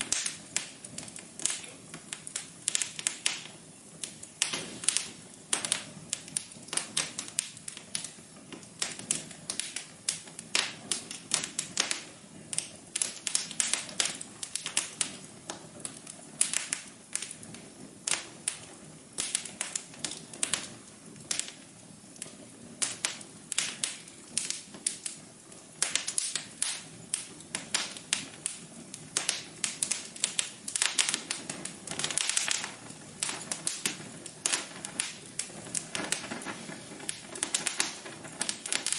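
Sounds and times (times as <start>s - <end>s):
hiss of flames: 0.0s - 38.9s
wood fire crackling and popping: 0.0s - 38.9s.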